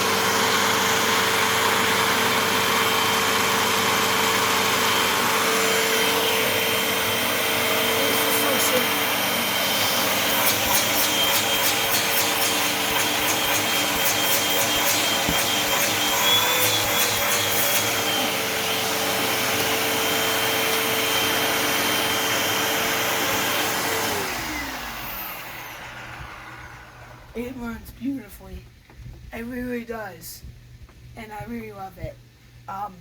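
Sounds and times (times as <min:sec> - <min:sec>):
motor winding down: 0:00.0 - 0:27.3
vacuum cleaner motor whine: 0:00.0 - 0:27.3.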